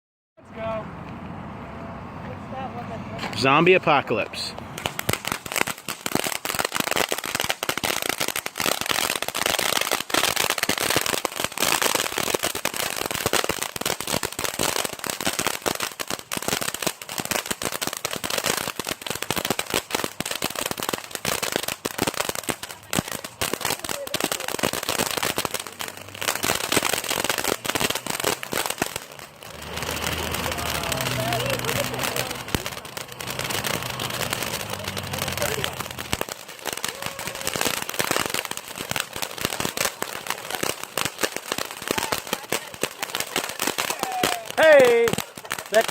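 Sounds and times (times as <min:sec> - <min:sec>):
firework crackling: 0:03.1 - 0:45.9.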